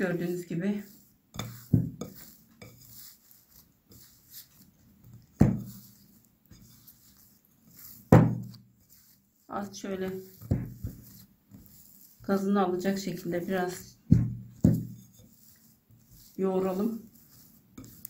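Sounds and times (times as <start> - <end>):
kneading dough: 0.0 - 18.0.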